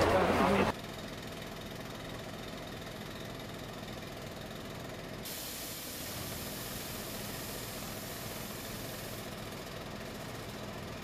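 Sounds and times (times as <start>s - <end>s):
low engine hum: 0.0s - 11.0s
street noise hiss: 0.0s - 11.0s.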